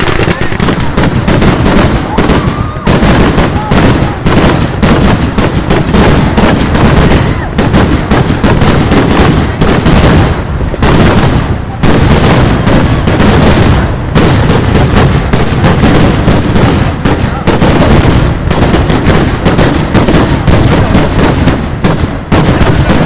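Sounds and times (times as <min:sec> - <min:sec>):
rapid loud firecracker bangs: 0:00.0 - 0:23.0.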